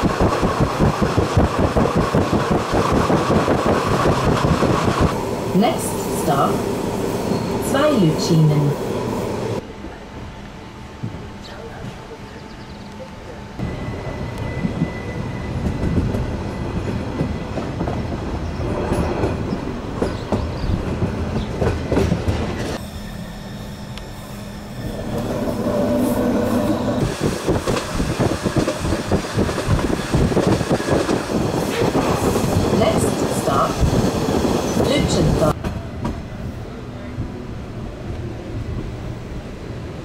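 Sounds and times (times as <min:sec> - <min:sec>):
train rumbling on rails: 0:00.0 - 0:40.0.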